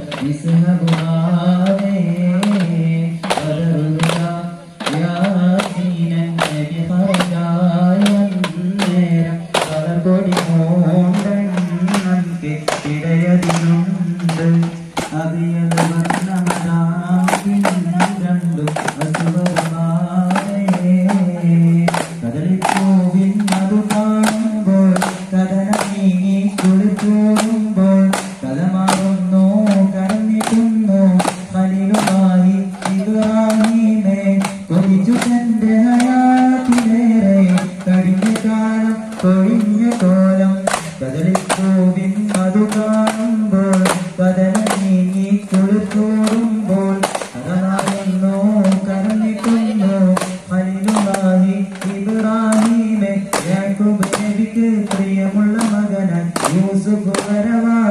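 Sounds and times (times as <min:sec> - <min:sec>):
frame drum beats: 0:00.0 - 0:57.6
person singing chant-like melody: 0:00.0 - 0:57.9.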